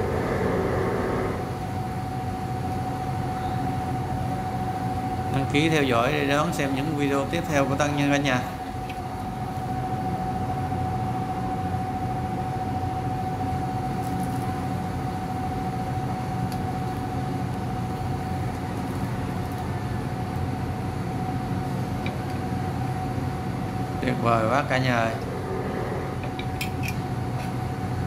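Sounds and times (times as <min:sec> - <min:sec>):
mechanical hum with whine: 0:00.0 - 0:28.0.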